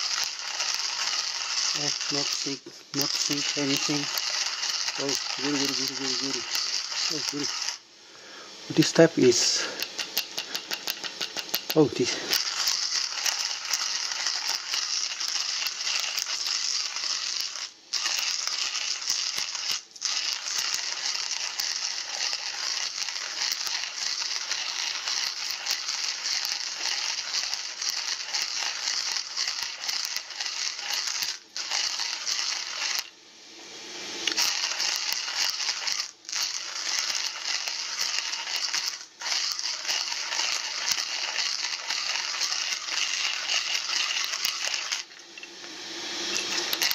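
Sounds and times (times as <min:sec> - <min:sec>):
coffee beans grinding in hand mill: 0:00.0 - 0:07.8, 0:08.6 - 0:33.2, 0:33.8 - 0:46.9.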